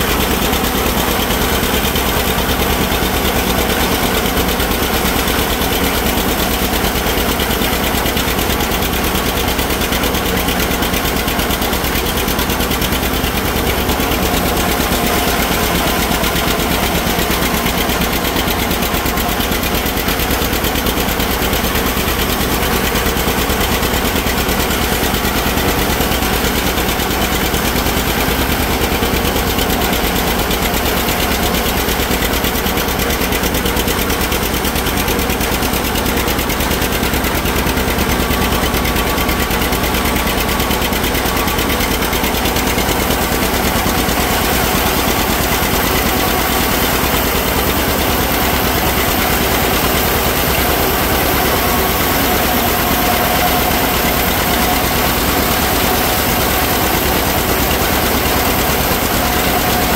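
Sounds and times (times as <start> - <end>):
forage harvester whirring: 0.0 - 59.9
tractor engine popping: 0.0 - 59.9.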